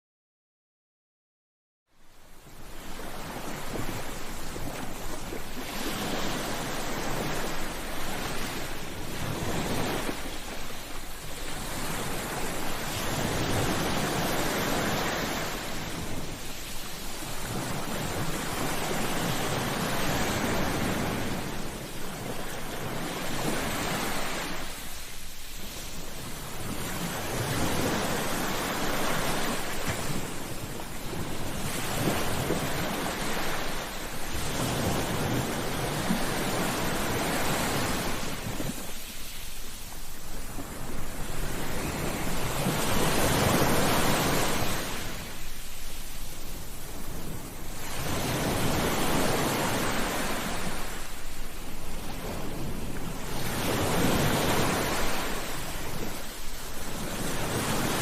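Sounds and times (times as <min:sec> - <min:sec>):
sea waves breaking on shore: 0:02.0 - 0:58.0.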